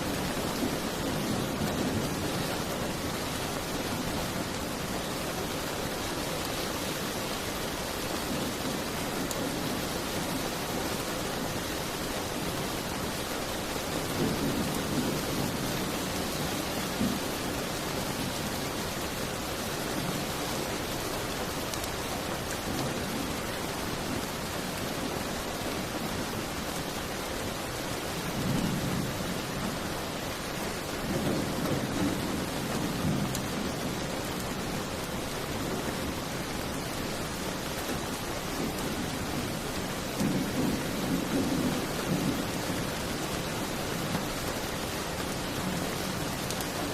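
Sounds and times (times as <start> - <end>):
dense rain: 0.0 - 46.9.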